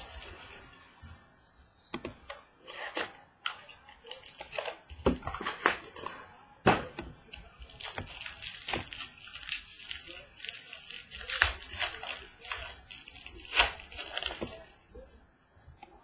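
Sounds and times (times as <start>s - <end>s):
plastic wrap and cardboard crackling: 0.0s - 1.4s, 2.3s - 15.0s.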